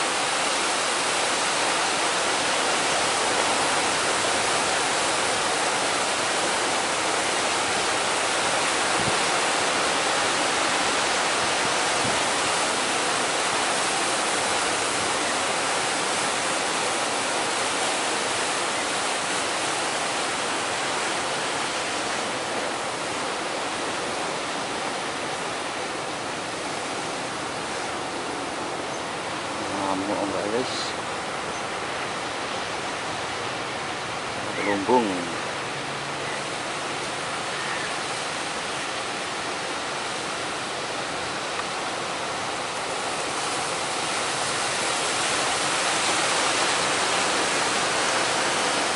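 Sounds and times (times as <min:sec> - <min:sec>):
heavy surf: 0:00.0 - 0:48.9
strong wind: 0:00.0 - 0:48.9.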